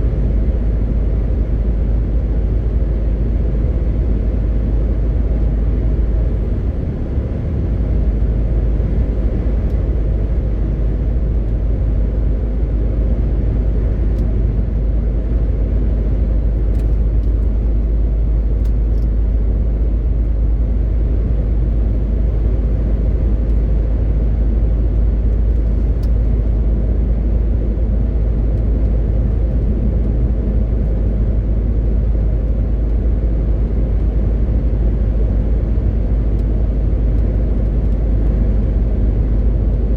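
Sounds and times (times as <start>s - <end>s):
road and tyre noise: 0.0s - 39.9s
truck diesel engine drone: 0.0s - 39.9s.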